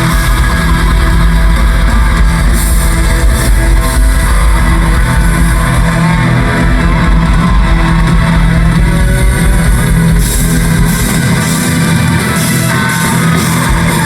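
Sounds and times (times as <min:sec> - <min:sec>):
heavy rock band playing: 0:00.0 - 0:14.0.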